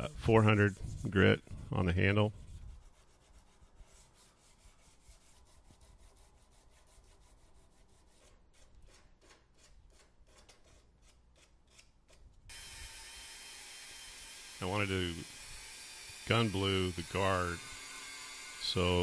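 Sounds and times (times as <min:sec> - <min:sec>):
sandpaper sanding wood: 0:00.0 - 0:19.0.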